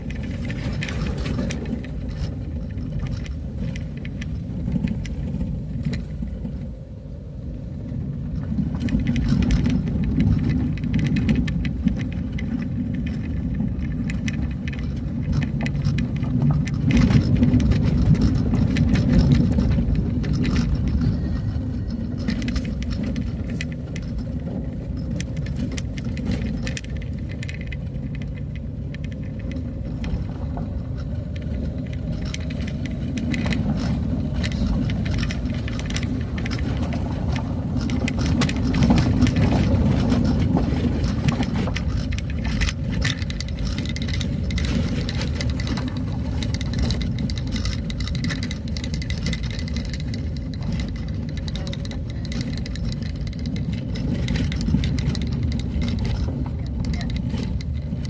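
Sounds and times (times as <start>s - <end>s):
rattles and knocks: 0.0s - 6.5s, 8.3s - 58.0s
vehicle rumble on road: 0.0s - 58.0s.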